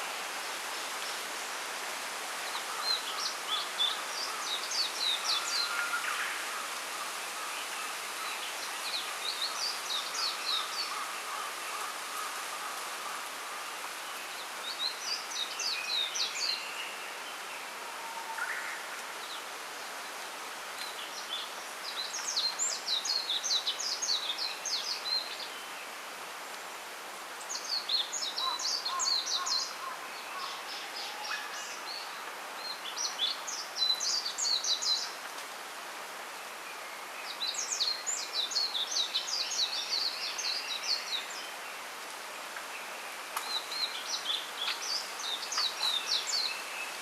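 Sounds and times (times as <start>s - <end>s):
rustling hiss of bamboo: 0.0s - 47.0s
songbird chirping: 2.4s - 35.6s, 36.3s - 47.0s.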